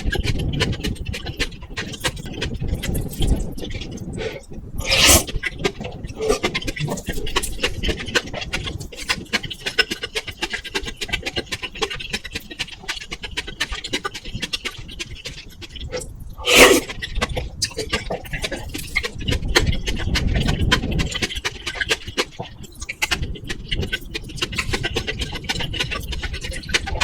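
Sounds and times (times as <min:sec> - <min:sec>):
close eating sounds: 0:00.0 - 0:27.0.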